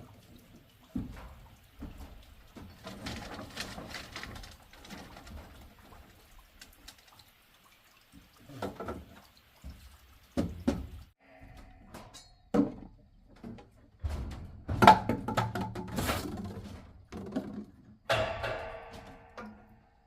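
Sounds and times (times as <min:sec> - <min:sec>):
water splashing and dripping: 0:00.0 - 0:11.2, 0:12.0 - 0:20.0.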